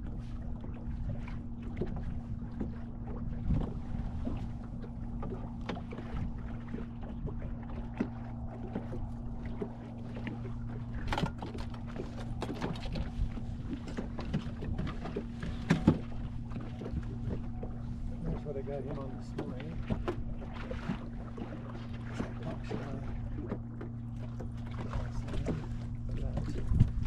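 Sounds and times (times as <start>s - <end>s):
boat motor humming: 0.0s - 27.0s.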